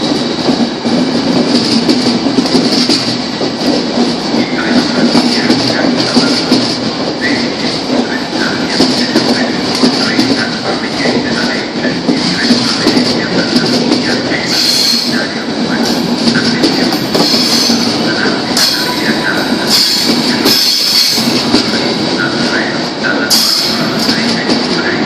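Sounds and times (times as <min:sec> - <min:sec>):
steel wheels rumbling on rails: 0:00.0 - 0:25.0.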